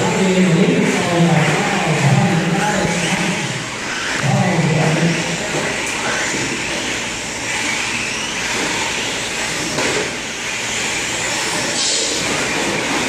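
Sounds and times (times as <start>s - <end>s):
rc truck motors whining: 0.0s - 13.0s.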